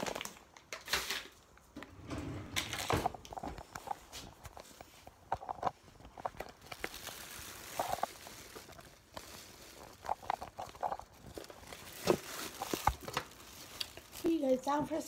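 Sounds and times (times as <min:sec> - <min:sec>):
handling clicks and rustles: 0:01.7 - 0:14.3.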